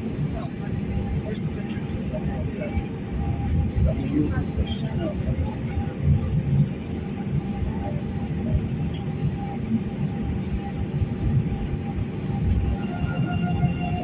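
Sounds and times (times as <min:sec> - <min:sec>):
airliner cabin rumble: 0:00.0 - 0:14.0
faint engine tones: 0:00.0 - 0:14.0.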